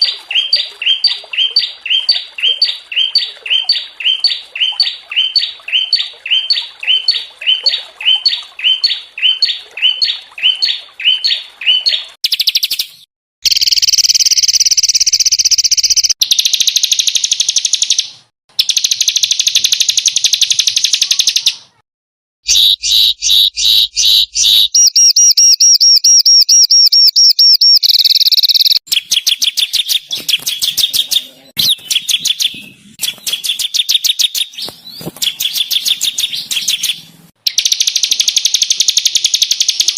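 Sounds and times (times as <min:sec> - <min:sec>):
small songbirds singing: 0:00.0 - 0:21.7, 0:22.5 - 0:39.9.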